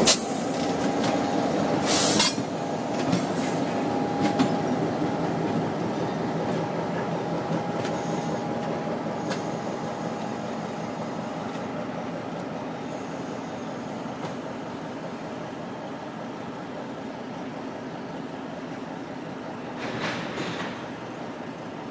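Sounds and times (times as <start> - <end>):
diesel locomotive engines running: 0.0 - 21.9
train wheels rolling on rails: 0.0 - 21.9.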